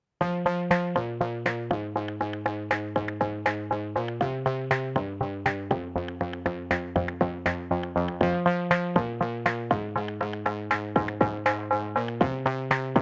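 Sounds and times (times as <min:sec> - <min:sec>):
held low synth chords: 0:00.8 - 0:13.0.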